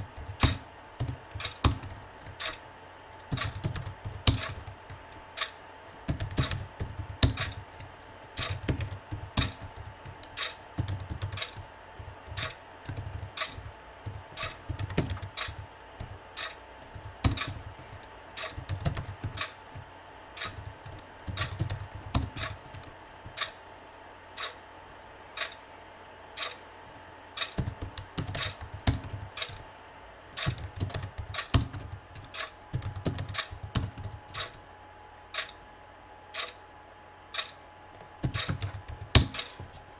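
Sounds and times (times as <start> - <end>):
typing on computer keyboard: 0.0 - 23.6, 26.4 - 29.7, 30.3 - 34.6, 37.4 - 39.8.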